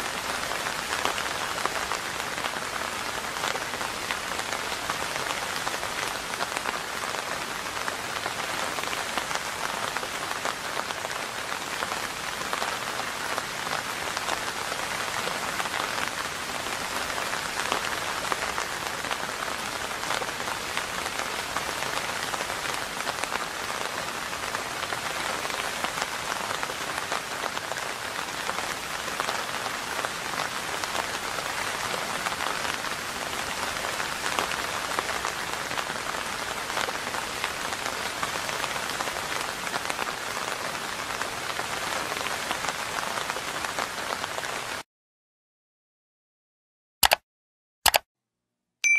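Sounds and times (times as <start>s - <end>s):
steady rain falling: 0.0s - 44.8s.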